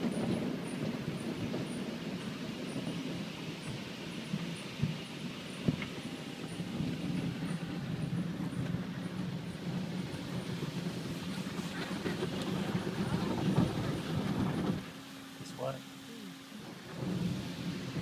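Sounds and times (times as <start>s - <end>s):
car wash machinery hum: 0.0s - 18.0s.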